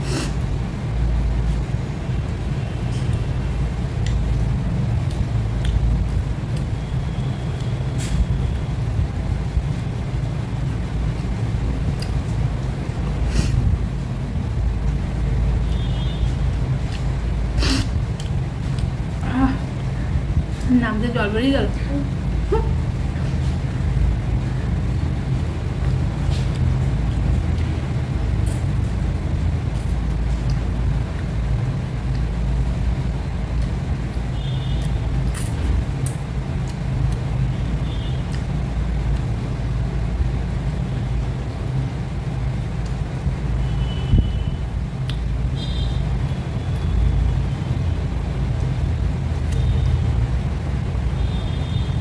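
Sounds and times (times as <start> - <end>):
low background rumble: 0.0 - 52.0
low mechanical hum: 0.0 - 52.0.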